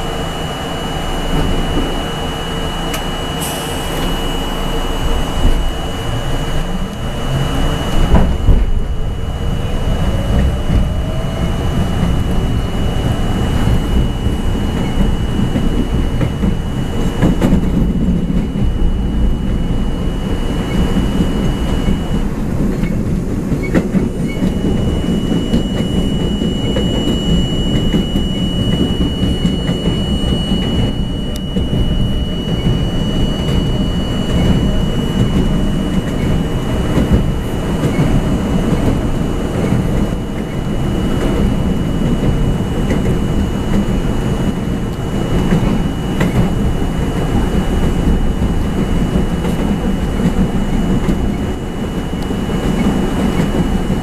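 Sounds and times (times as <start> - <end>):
thin high whine: 0.0 - 54.0
train wheels rumbling on rail: 0.0 - 54.0.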